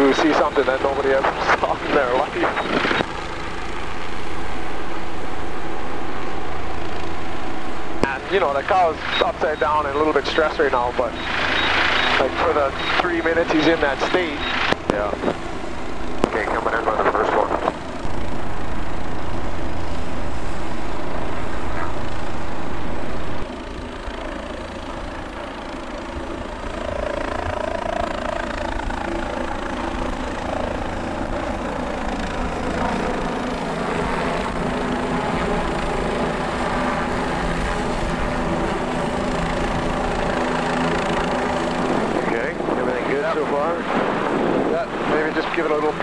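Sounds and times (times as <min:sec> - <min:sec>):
helicopter rotor drone: 0:00.0 - 0:46.0.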